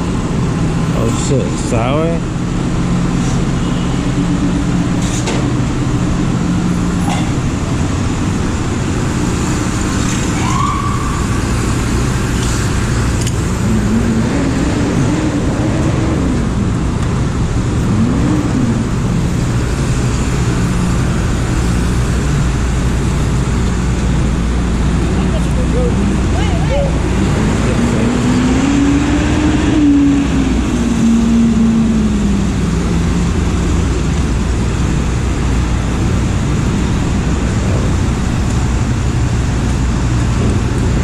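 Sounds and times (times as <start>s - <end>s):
engine hum: 0.0s - 41.0s
highway traffic rumble: 0.0s - 41.0s.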